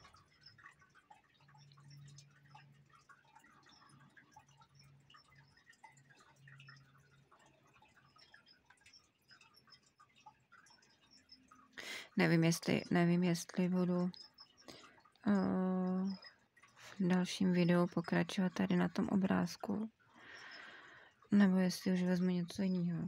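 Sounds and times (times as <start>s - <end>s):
faint low hum: 0.0s - 23.0s
faint small ticks: 0.0s - 23.0s.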